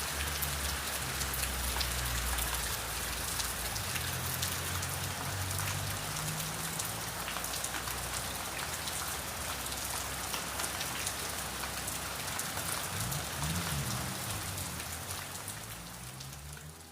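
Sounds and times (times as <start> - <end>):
raindrops ticking on a surface: 0.0 - 16.9
steady rain falling: 0.0 - 16.9.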